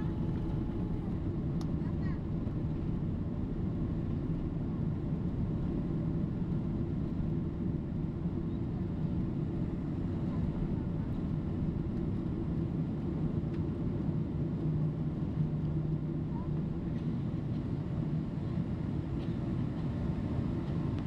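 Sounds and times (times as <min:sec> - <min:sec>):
aircraft cabin engine drone: 0:00.0 - 0:21.0.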